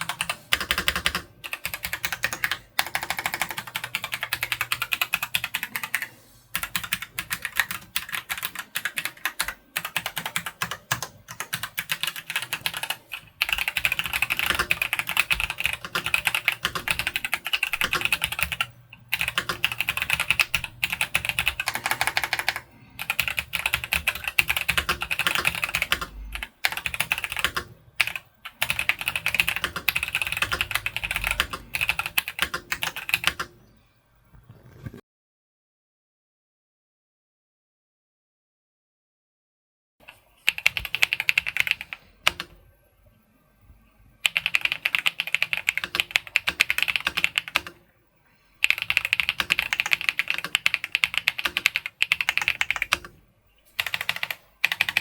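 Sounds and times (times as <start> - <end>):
fast mechanical keyboard typing: 0.0 - 33.6, 40.4 - 42.5, 44.2 - 47.8, 48.6 - 53.2, 53.8 - 55.0.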